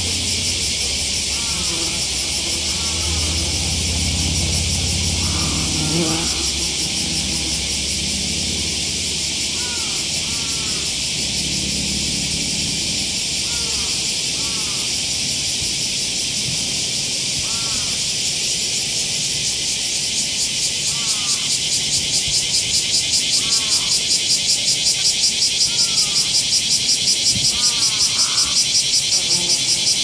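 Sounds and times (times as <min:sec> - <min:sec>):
cicadas chorus: 0:00.0 - 0:30.0
low wasp wing buzz: 0:00.0 - 0:30.0.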